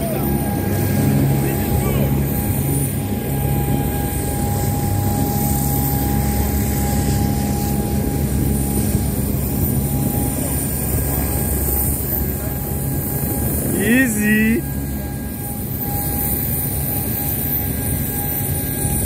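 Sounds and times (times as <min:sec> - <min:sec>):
aircraft engine droning: 0:00.0 - 0:19.0.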